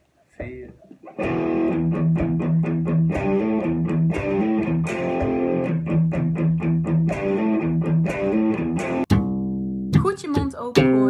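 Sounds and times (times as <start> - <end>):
electric guitar strumming: 0.9 - 10.1.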